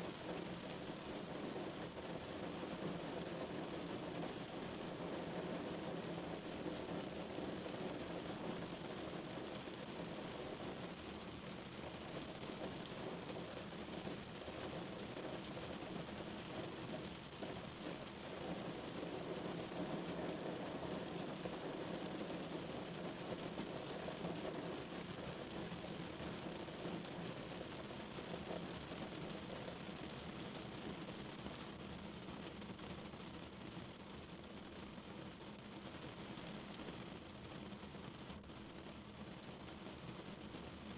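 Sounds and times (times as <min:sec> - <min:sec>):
rain pattering on a car: 0:00.0 - 0:40.9.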